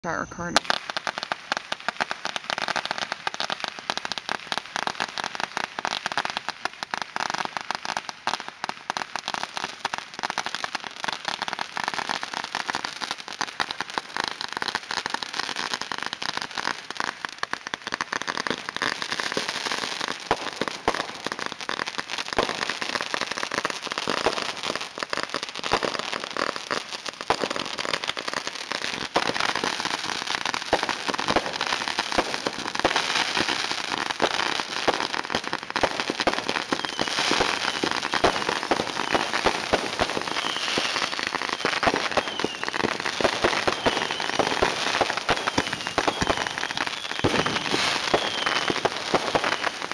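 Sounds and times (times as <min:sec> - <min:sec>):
fireworks crackling and popping: 0:00.0 - 0:49.9.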